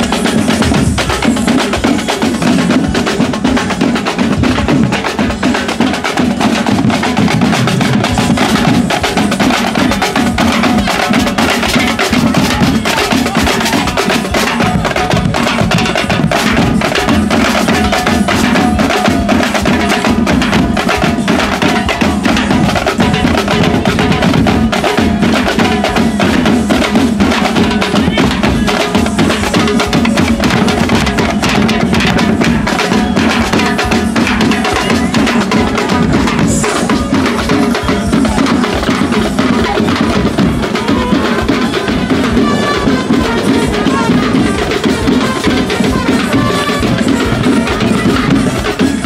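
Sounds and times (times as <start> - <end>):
drum-driven percussive music: 0.0 - 49.0.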